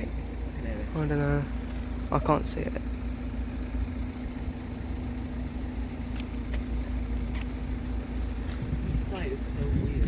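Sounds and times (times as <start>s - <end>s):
approaching train hum and rumble: 0.0s - 10.0s.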